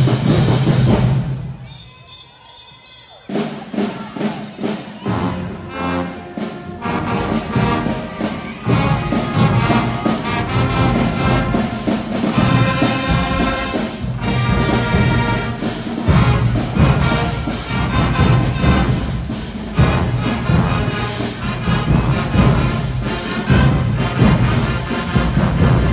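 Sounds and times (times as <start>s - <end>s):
marching band playing: 0.0s - 25.9s
percussion hits: 3.3s - 25.9s.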